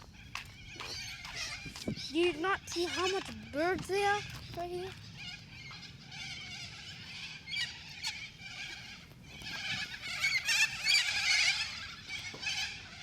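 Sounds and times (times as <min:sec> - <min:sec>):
flock of small birds chirping: 0:00.0 - 0:13.0.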